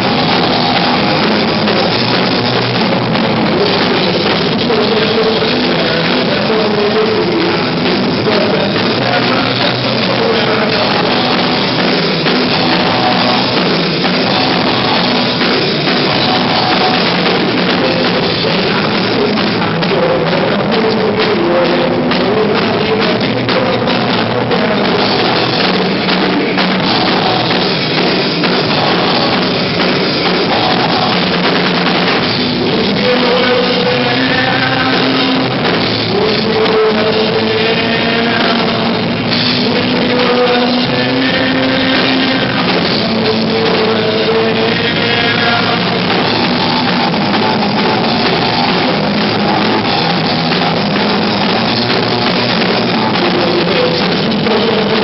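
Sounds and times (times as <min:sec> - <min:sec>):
person singing: 0:00.0 - 0:55.0
rock band playing live: 0:00.0 - 0:55.0.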